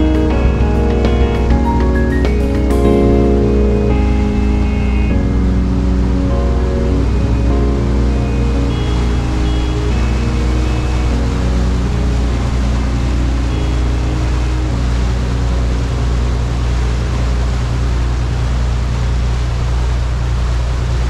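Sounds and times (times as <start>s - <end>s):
soft background music: 0.0s - 19.6s
boat engine hum: 0.0s - 21.0s
rushing water and wind: 0.0s - 21.0s.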